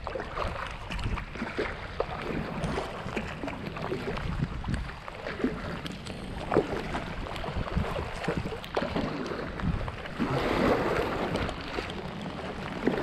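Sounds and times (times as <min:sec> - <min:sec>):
paddle blades splashing: 0:00.0 - 0:13.0
water sloshing against boat: 0:00.0 - 0:13.0.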